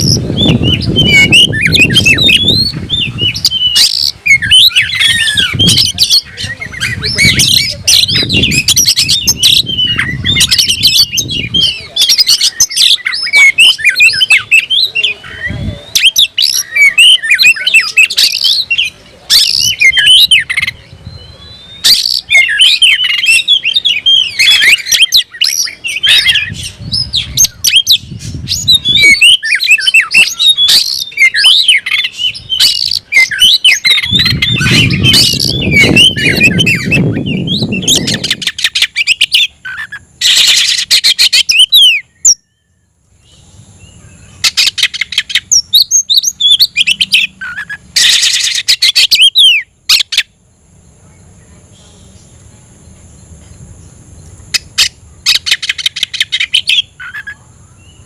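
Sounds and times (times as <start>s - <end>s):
bird singing whistles: 0.0s - 50.3s, 54.5s - 58.0s.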